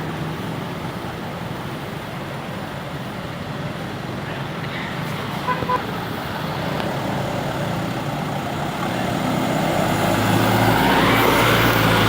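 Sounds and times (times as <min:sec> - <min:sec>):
heavy engine approaching: 0:00.0 - 0:12.0
roadside traffic: 0:00.0 - 0:12.0.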